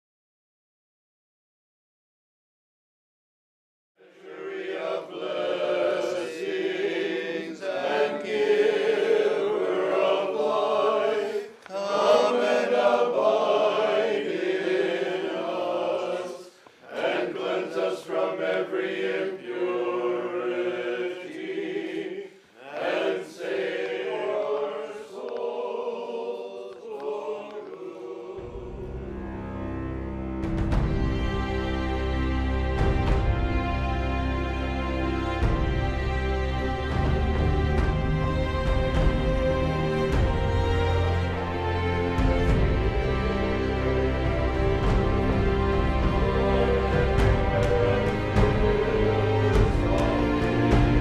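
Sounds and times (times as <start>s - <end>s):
unaccompanied choir chanting: 4.0s - 30.0s, 31.1s - 51.0s.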